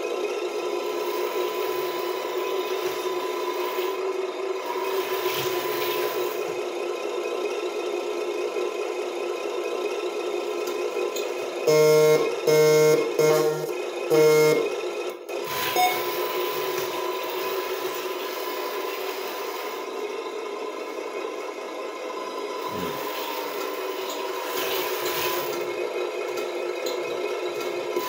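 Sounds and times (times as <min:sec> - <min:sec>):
simulated diesel engine sound: 0:00.0 - 0:28.0.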